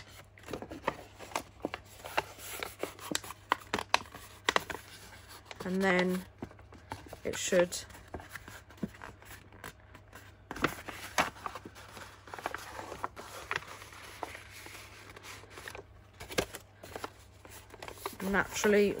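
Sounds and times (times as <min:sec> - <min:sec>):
paper rustling and crinkling: 0:00.0 - 0:19.0.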